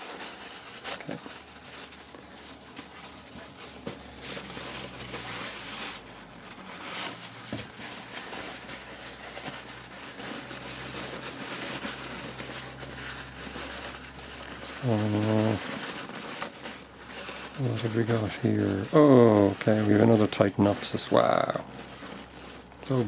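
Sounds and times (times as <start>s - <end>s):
tissue paper rustling: 0.0s - 23.0s.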